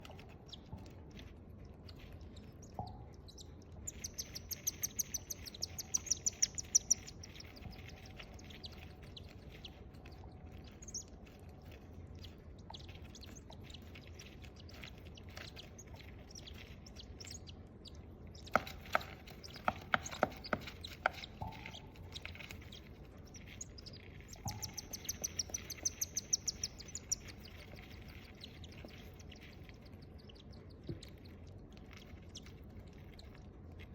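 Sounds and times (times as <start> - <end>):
cockatiel chicks chirping: 0.0 - 33.9.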